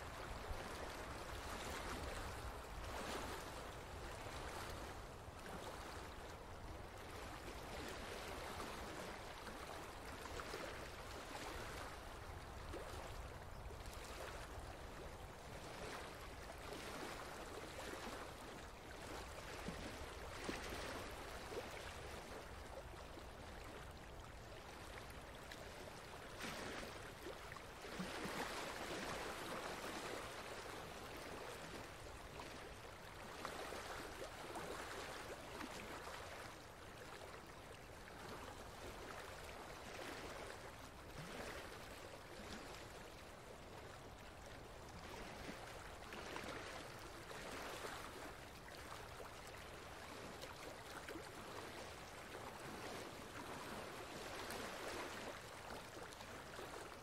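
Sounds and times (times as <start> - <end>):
running water stream: 0.0 - 57.0.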